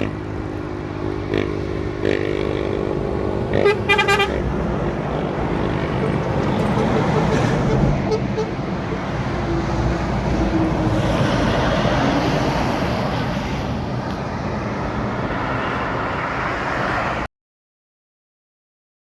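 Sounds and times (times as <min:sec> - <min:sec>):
heavy truck traffic passing: 0:00.0 - 0:17.3.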